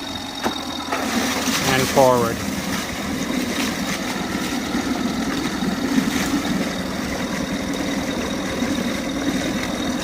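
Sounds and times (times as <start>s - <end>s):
outboard motor idling: 0.0s - 10.0s.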